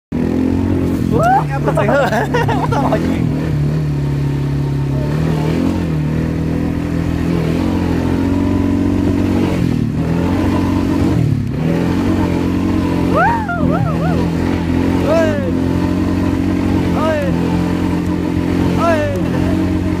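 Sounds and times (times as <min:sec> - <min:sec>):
quad bike engine running: 0:00.1 - 0:20.0.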